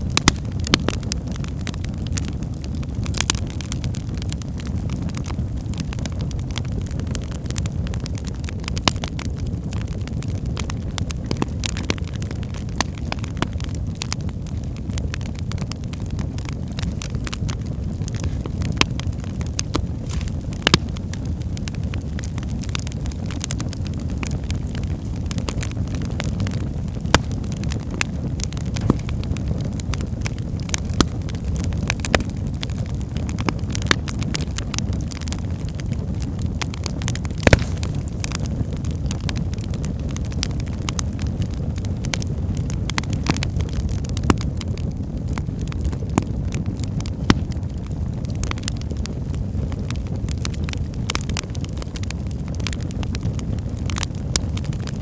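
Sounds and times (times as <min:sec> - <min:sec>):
fire roaring: 0:00.0 - 0:55.0
logs crackling and popping: 0:00.0 - 0:55.0.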